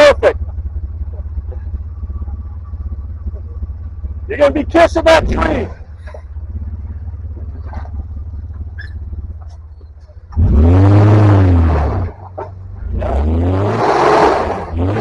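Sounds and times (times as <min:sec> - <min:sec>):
off-road engine idling and revving: 0:00.0 - 0:15.0.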